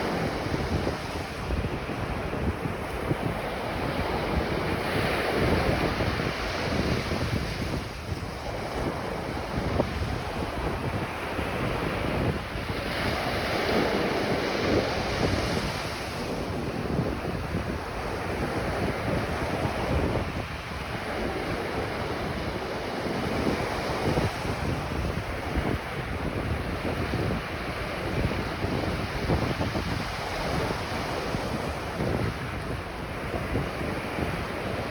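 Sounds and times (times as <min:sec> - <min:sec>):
ocean surf washing onto beach: 0:00.0 - 0:34.9
wind buffeting microphone: 0:00.0 - 0:34.9.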